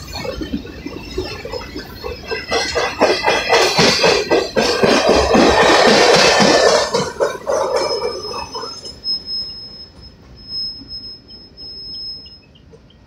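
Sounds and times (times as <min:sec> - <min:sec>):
freight train rumbling past: 0:00.0 - 0:13.0
thin high squeal: 0:00.2 - 0:12.7.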